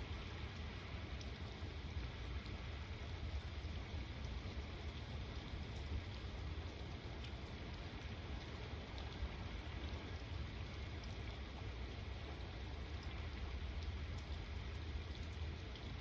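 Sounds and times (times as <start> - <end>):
steady rain: 0.0 - 16.0
raindrop ticks: 0.1 - 11.6, 12.3 - 16.0.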